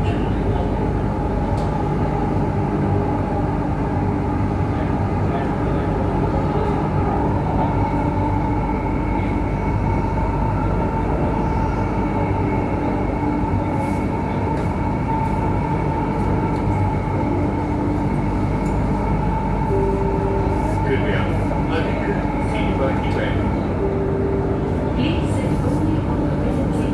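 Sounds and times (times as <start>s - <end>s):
constant high whine: 0.0s - 26.9s
train wheels rumbling on rail: 0.0s - 26.9s.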